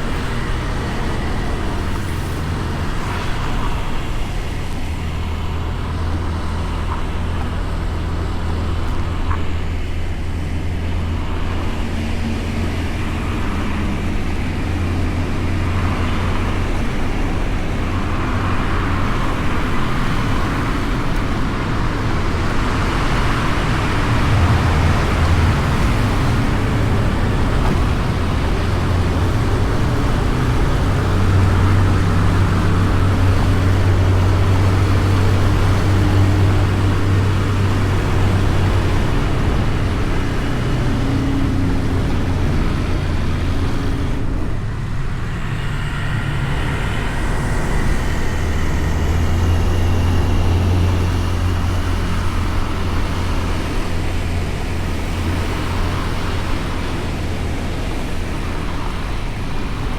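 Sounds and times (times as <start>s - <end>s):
rushing haze: 0.0s - 59.9s
scooter engine and road noise: 0.0s - 59.9s.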